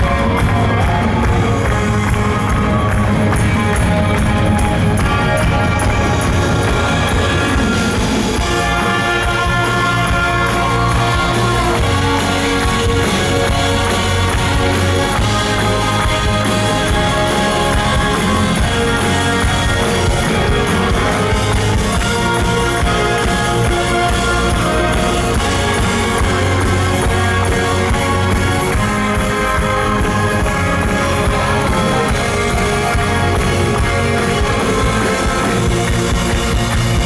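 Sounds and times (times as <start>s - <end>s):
rock band and string orchestra: 0.0s - 37.0s.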